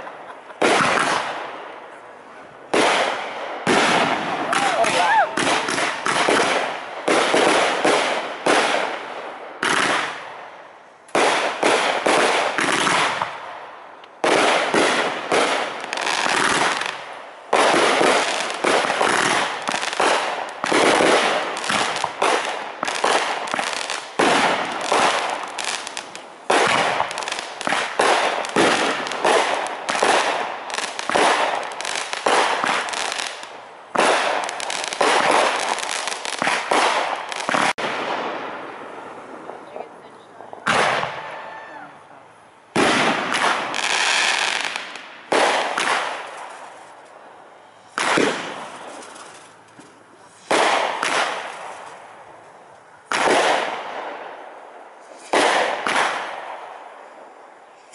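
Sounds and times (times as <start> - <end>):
fireworks booming and crackling: 0.0 - 57.9.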